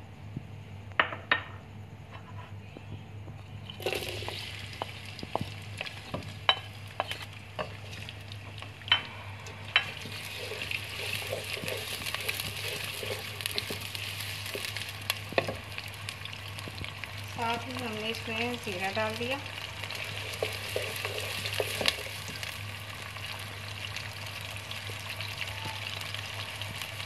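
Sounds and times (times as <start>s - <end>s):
onions sizzling in hot oil: 3.7s - 27.0s.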